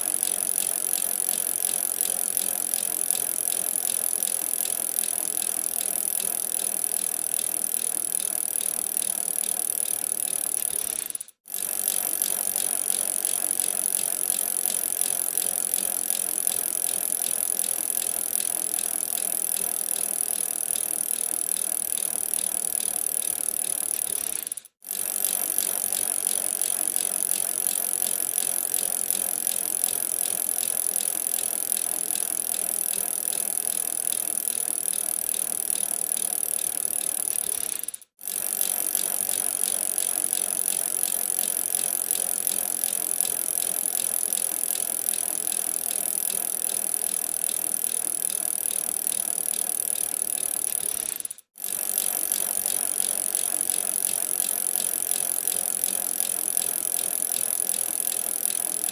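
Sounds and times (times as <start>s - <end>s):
bicycle mechanism rattling and ticking: 0.0s - 58.9s.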